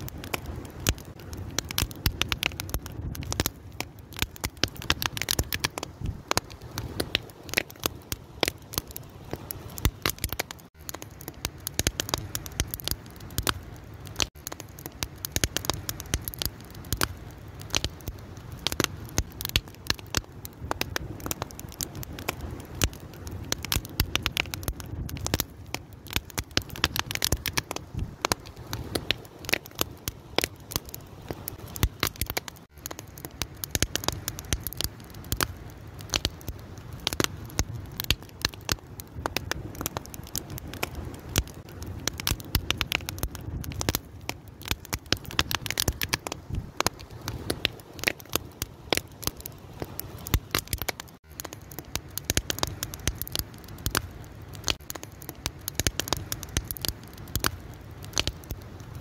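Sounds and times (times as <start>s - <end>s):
low rumble of fire: 0.0s - 59.0s
wood fire crackling: 0.0s - 59.0s.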